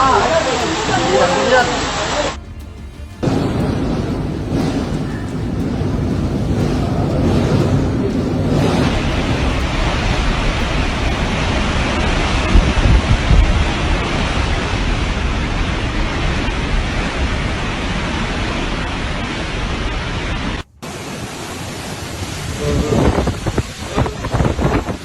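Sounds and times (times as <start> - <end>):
storm wind: 0.0 - 2.4, 3.2 - 25.0
rain: 0.0 - 25.0
wind buffeting microphone: 3.2 - 25.0.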